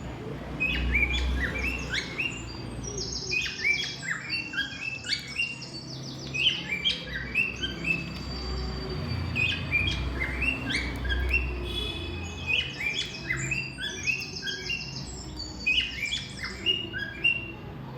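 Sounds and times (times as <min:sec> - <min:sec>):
parrots chirping: 0:00.0 - 0:17.6.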